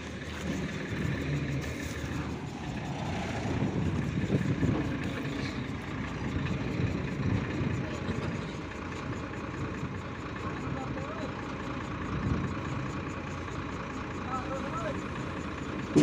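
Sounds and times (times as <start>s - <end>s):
combine harvester engine running: 0.0s - 16.0s.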